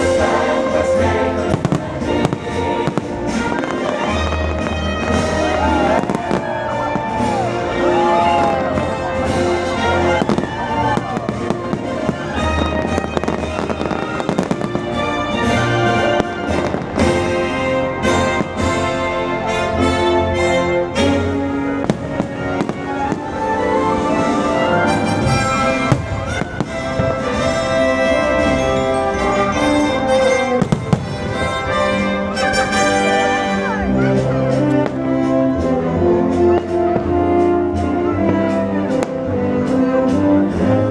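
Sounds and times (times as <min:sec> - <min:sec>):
fireworks bangs and crackles: 0:00.0 - 0:40.9
music: 0:00.0 - 0:40.9.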